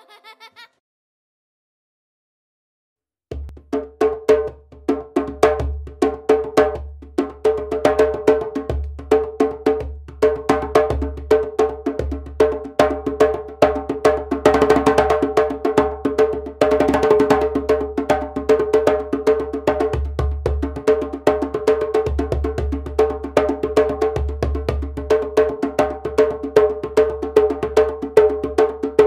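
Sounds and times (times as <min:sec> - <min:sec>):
hand drum rhythm: 0:03.3 - 0:29.0.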